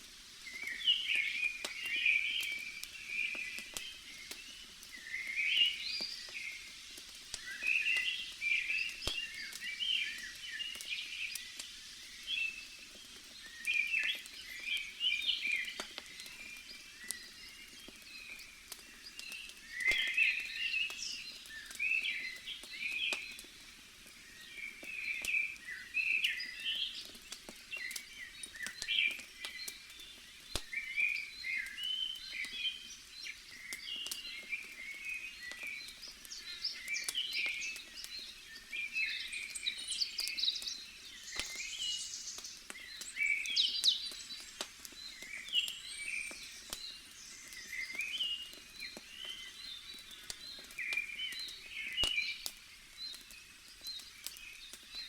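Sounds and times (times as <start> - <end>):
campfire crackling and popping: 0.0 - 55.0
small birds chirping: 0.0 - 55.0.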